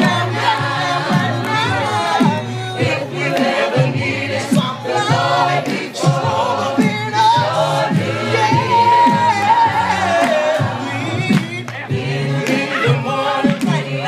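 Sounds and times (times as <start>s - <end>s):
gospel group singing: 0.0s - 14.0s.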